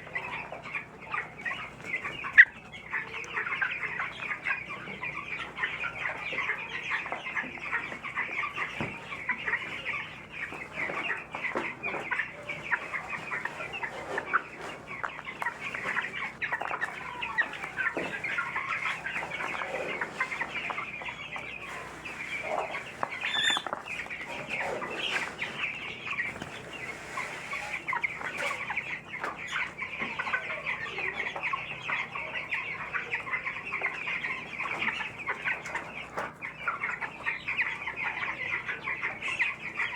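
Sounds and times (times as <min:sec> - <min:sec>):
chicks peeping and cheeping: 0:00.0 - 0:39.9.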